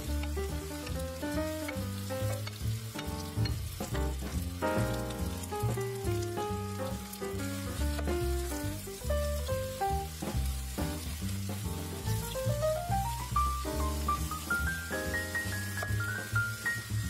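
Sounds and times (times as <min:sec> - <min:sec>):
background music with bass line: 0:00.0 - 0:17.0
mushrooms and onion sizzling in butter: 0:00.0 - 0:17.0.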